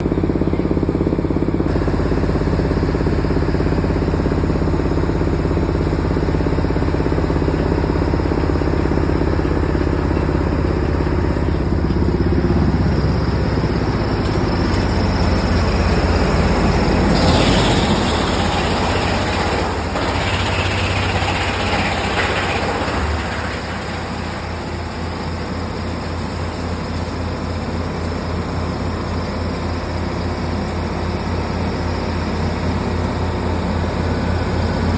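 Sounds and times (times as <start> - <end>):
diesel engine running: 0.0 - 34.9
wood chipper grinding wood: 0.0 - 34.9.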